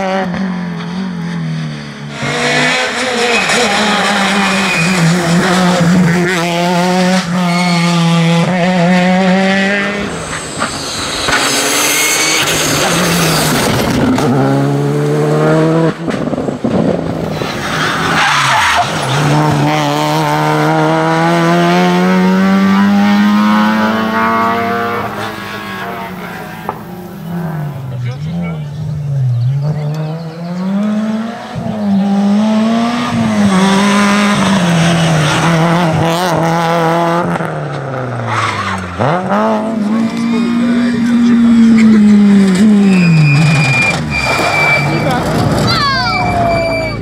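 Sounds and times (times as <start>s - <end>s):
rally car engines revving: 0.0s - 47.0s.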